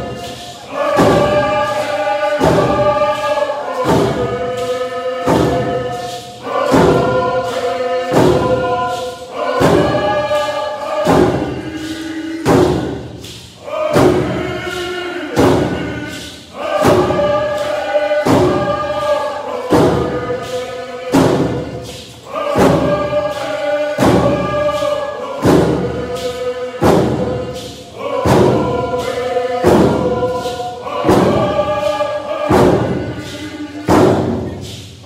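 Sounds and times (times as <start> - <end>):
hand drums beating: 0.0 - 34.6
group singing: 0.0 - 35.0.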